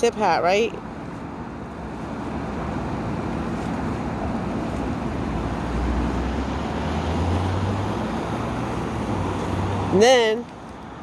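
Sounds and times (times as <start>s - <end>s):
road traffic rumble: 0.0s - 11.0s
vehicle engine low hum: 0.7s - 11.0s.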